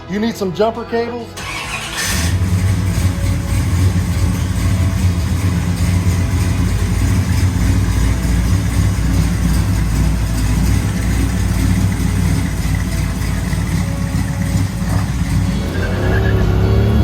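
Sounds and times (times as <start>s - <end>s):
car engine idling: 1.4s - 17.0s.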